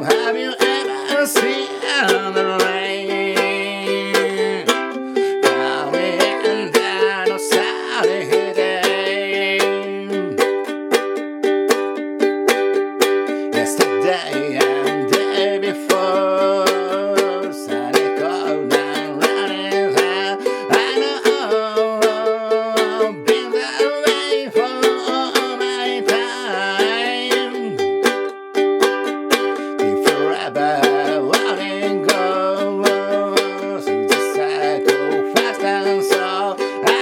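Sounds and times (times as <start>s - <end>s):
ukulele strumming: 0.0s - 37.0s.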